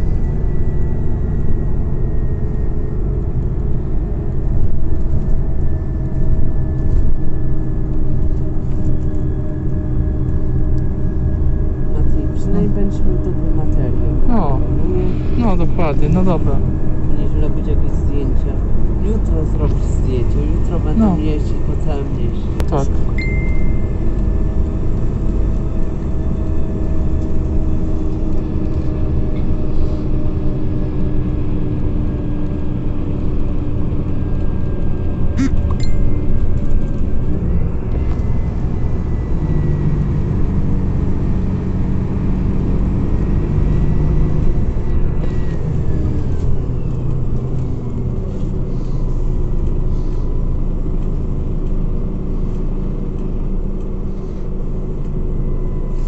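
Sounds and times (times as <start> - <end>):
rising and falling whine: 0.0 - 19.0, 22.4 - 48.4
bus engine and road rumble: 0.0 - 56.0.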